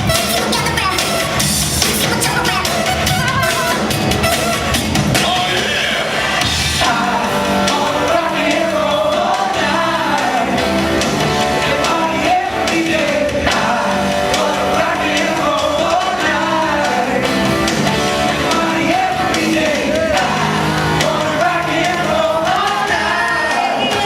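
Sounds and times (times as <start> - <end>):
rock music with singer: 0.0 - 24.0.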